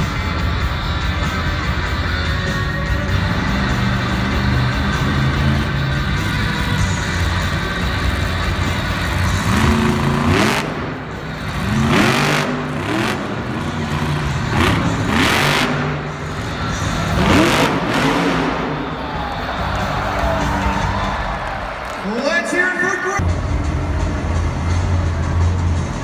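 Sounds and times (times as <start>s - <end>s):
monster truck engines revving: 0.0s - 22.0s, 23.2s - 26.0s.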